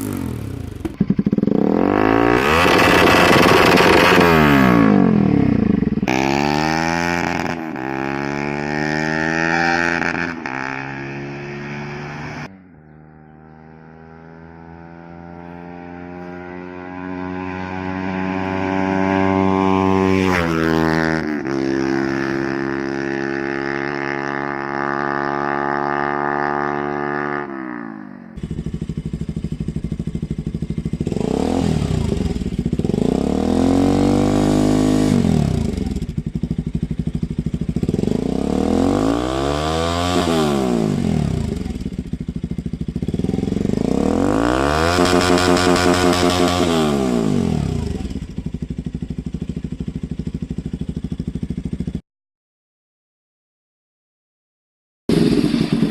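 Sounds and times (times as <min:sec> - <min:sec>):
motorcycle engine revving: 0:00.0 - 0:52.0, 0:55.1 - 0:55.9.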